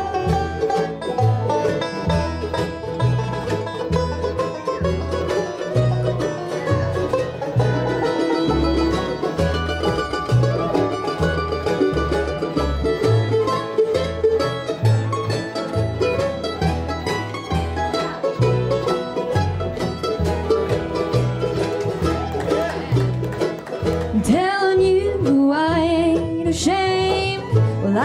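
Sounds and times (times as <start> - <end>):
bass line: 0.0 - 28.0
fast banjo picking: 0.0 - 28.0
guitar: 0.0 - 28.0.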